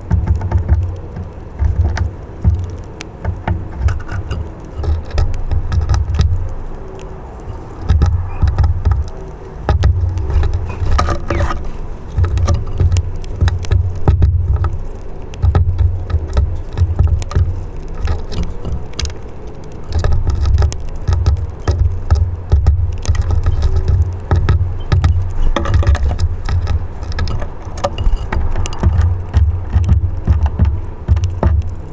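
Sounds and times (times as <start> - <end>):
sharp little taps and clicks: 0.0 - 31.9
wind buffeting microphone: 0.0 - 31.9.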